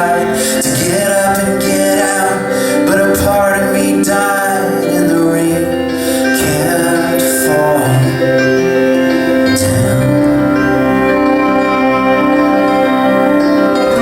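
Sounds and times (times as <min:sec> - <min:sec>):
live band instrumental: 0:00.0 - 0:14.0.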